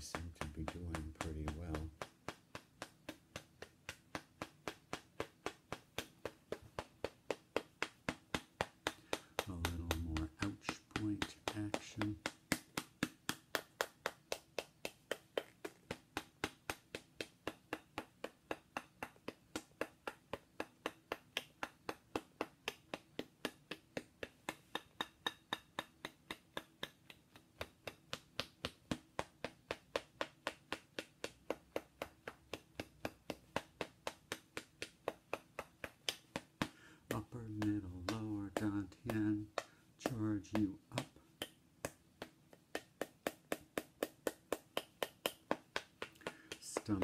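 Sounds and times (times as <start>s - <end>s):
tool tapping a figurine: 0.0s - 47.0s.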